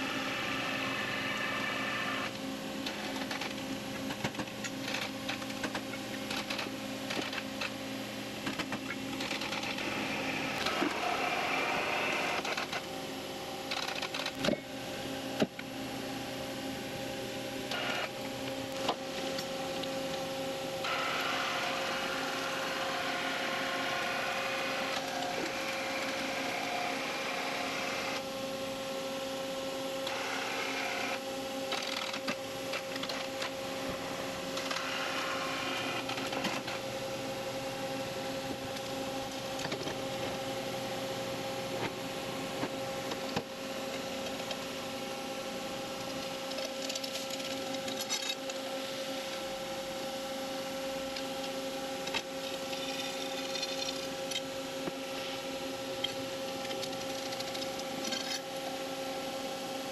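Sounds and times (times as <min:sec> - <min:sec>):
machinery humming with whine: 0:00.0 - 0:59.9.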